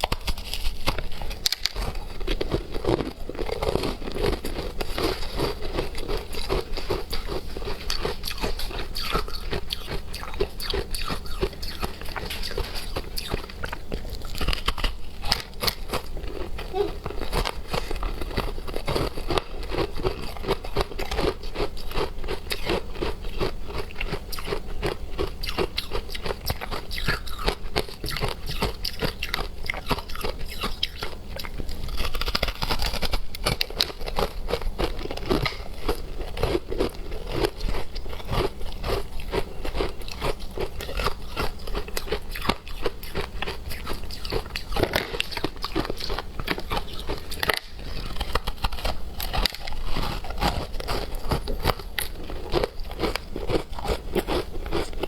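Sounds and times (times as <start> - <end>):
crunching frozen ice: 0.0 - 55.0.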